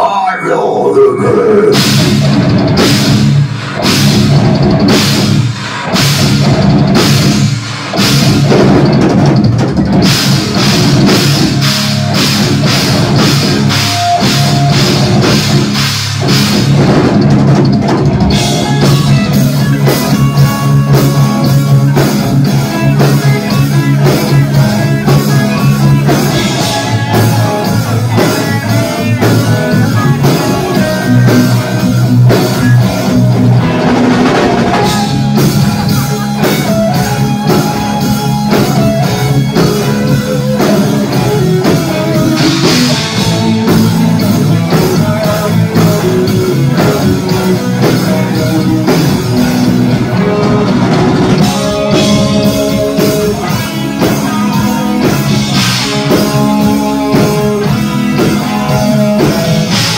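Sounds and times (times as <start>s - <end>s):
bass guitar: 0.0s - 59.9s
distorted electric guitars: 0.0s - 59.9s
drum kit: 1.5s - 59.9s.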